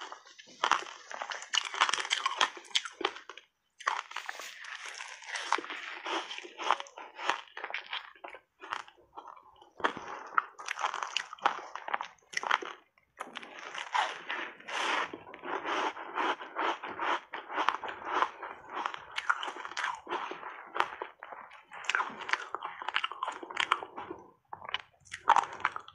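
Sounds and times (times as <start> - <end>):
crunching and chewing ice: 0.0 - 25.9.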